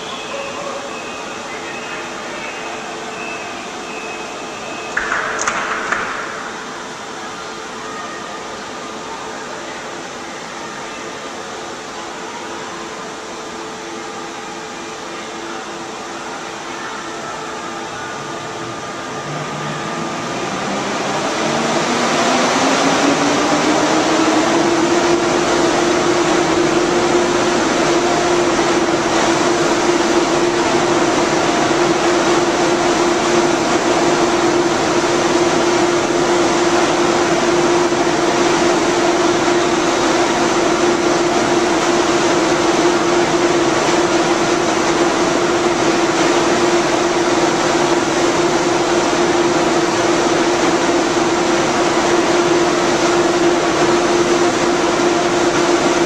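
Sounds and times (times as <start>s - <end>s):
train cooling fans spinning up: 0.0s - 56.0s.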